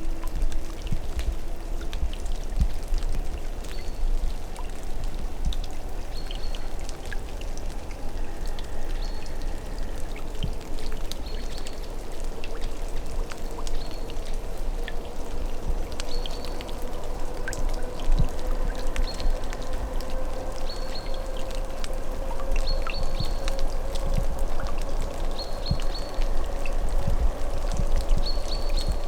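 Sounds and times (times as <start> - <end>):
running water: 0.0 - 29.0.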